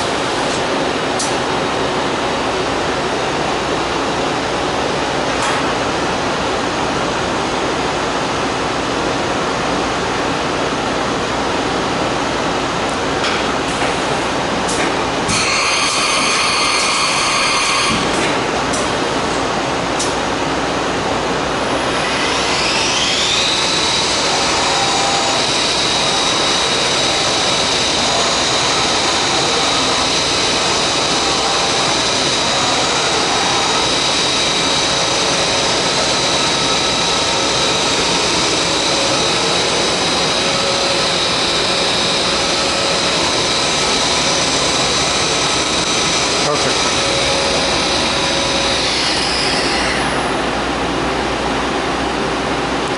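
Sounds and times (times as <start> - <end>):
machine spindle whine: 7.1 - 52.9.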